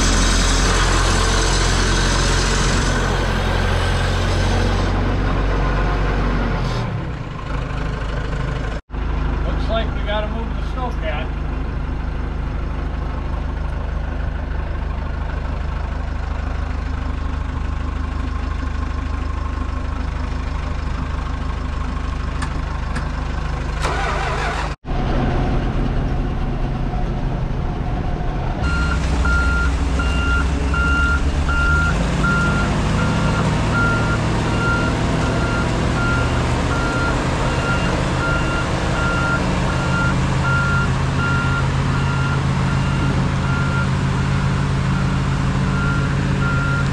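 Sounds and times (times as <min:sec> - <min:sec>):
heavy machinery engine running: 0:00.0 - 0:46.9.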